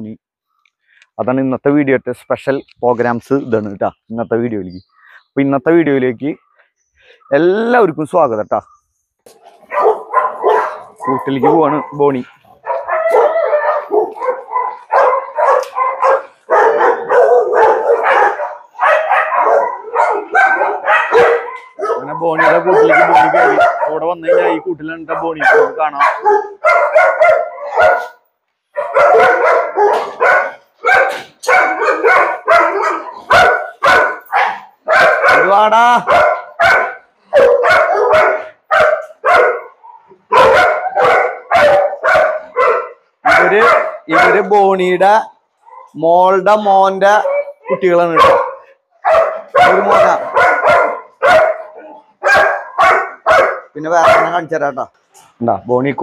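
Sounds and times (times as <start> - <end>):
dogs barking: 9.3 - 55.1.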